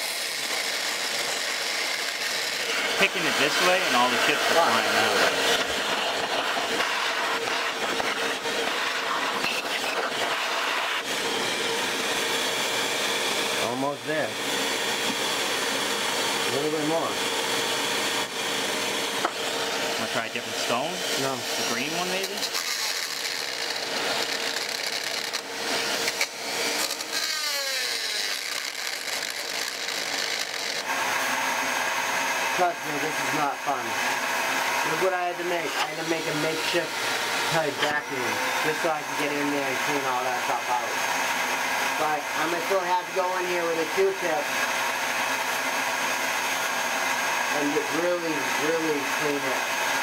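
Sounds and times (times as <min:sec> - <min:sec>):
rotary tool grinding metal: 0:00.0 - 0:31.3, 0:34.7 - 0:41.2, 0:42.0 - 0:45.8
shop vacuum running: 0:00.0 - 0:50.0.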